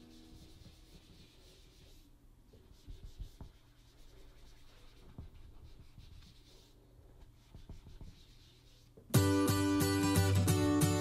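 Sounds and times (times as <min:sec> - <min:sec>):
cotton pad rubbing paper: 0:00.0 - 0:09.0.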